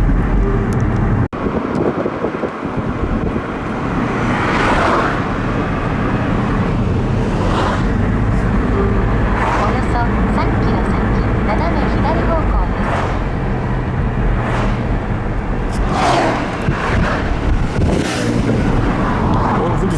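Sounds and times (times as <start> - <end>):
car road and engine rumble: 0.0 - 19.9
vehicles passing: 0.0 - 19.9.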